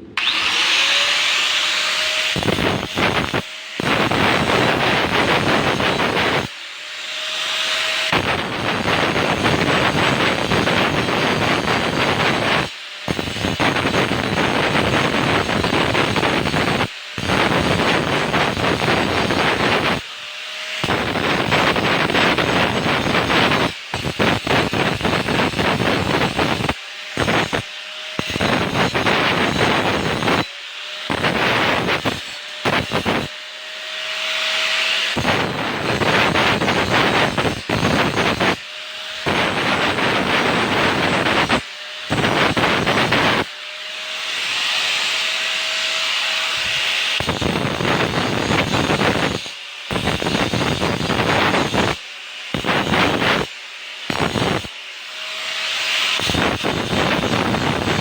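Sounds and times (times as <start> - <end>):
angle grinder grinding metal: 0.0 - 58.0.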